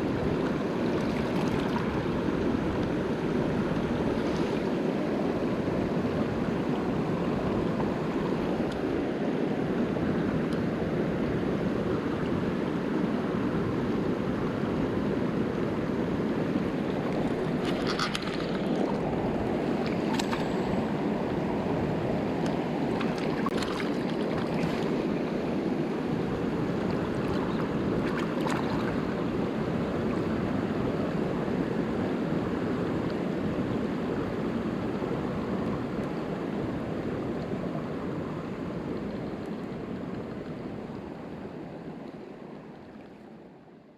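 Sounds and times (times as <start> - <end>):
stream rushing: 0.0 - 42.8.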